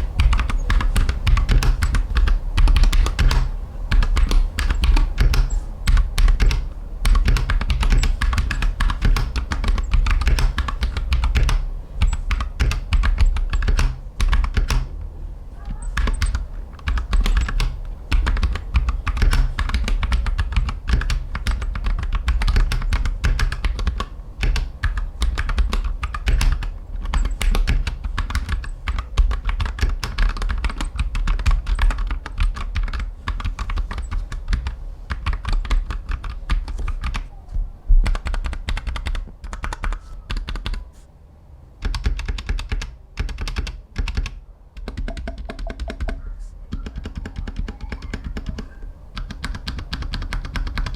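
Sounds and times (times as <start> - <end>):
mechanical keyboard typing: 0.0 - 14.9, 15.7 - 37.3, 38.0 - 40.8, 41.8 - 50.9.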